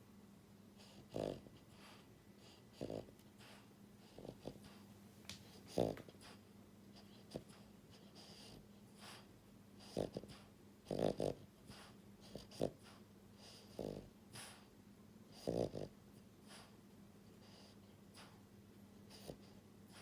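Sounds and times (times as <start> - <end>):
puppy snoring: 0.8 - 14.7, 15.3 - 18.4, 19.0 - 20.0.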